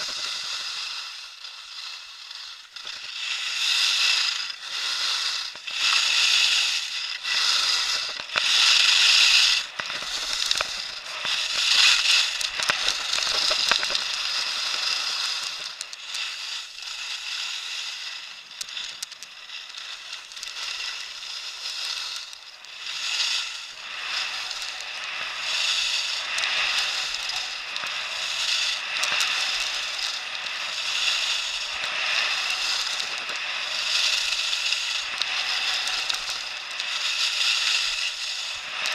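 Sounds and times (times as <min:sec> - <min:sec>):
skis scraping over packed snow: 0:00.0 - 0:38.9.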